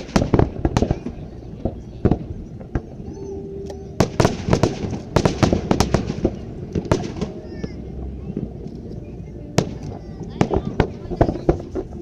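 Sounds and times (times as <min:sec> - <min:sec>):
fireworks bangs and crackling pops: 0:00.0 - 0:03.0, 0:04.0 - 0:08.7, 0:09.6 - 0:12.0.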